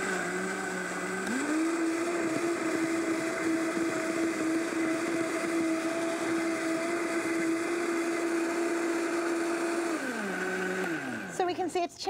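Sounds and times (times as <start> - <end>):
blender running at high speed: 0.0 - 11.7.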